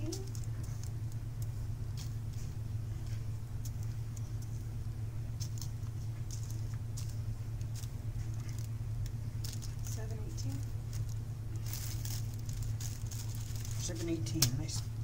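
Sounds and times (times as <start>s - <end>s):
plastic bags rustling and crinkling: 0.0s - 4.7s, 5.3s - 15.0s
steady low hum: 0.0s - 15.0s.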